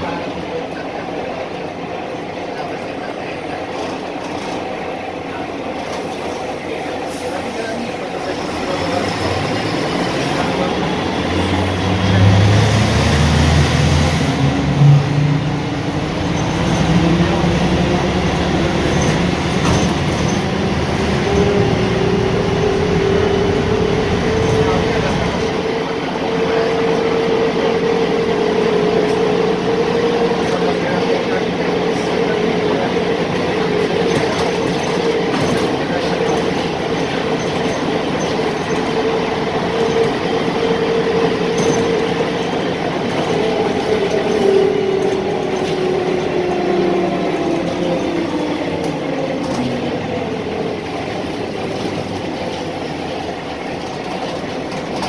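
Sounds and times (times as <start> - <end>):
bus engine whine: 0.0 - 55.0.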